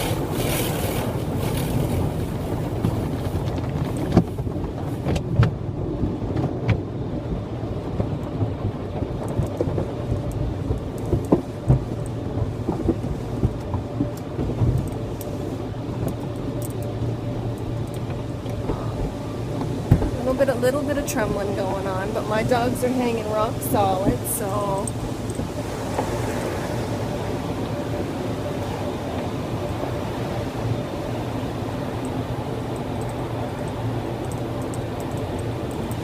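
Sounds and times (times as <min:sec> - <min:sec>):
low rumble of car wash machinery: 0:00.0 - 0:36.0.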